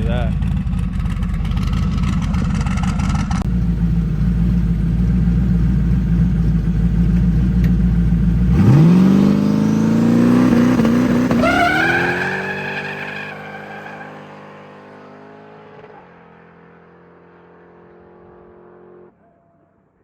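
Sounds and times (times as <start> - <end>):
drag car engine revving: 0.0 - 19.1.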